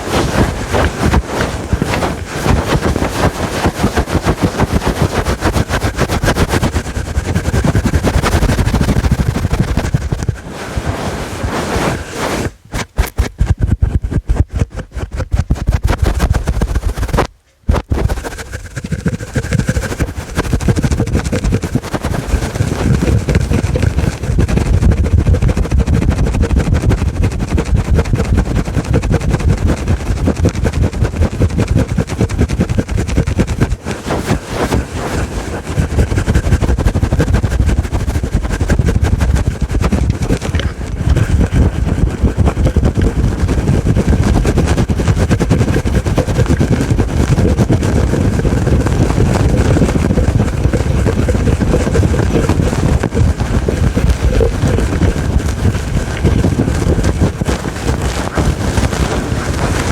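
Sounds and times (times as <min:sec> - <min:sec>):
fingers scratching microphone cover: 0:00.0 - 0:59.9.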